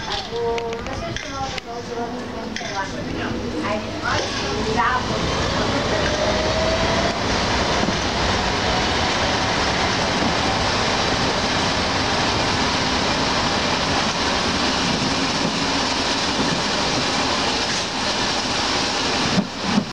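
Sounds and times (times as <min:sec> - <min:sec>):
rail motor car rumbling on track: 0:00.0 - 0:19.9.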